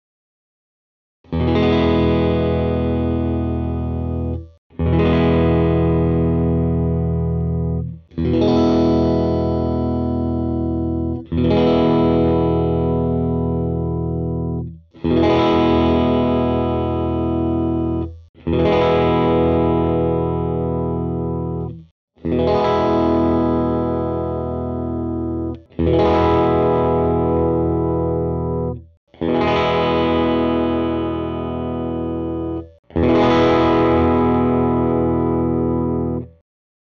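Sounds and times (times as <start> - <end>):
electric guitar chords ringing: 1.3 - 36.4.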